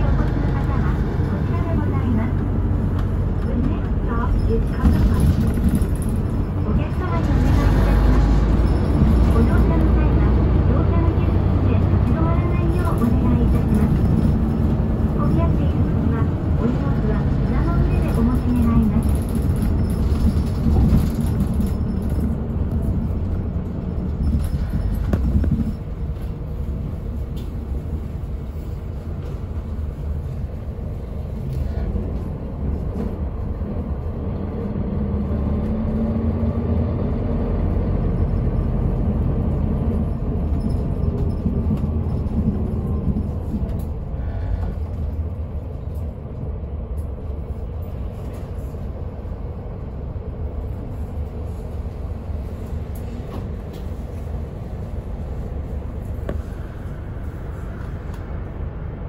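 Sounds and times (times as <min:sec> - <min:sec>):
bus engine rumble: 0:00.0 - 0:59.0
road noise: 0:00.0 - 0:59.0.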